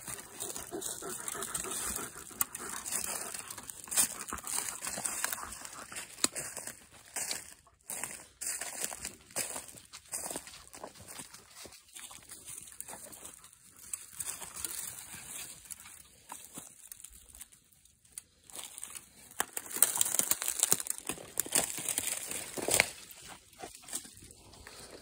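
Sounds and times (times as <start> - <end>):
dry leaves crackling underfoot: 0.0 - 25.0.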